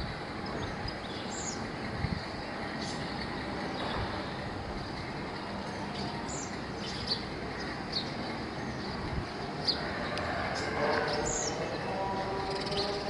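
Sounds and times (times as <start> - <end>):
steady background rumble: 0.0 - 13.0.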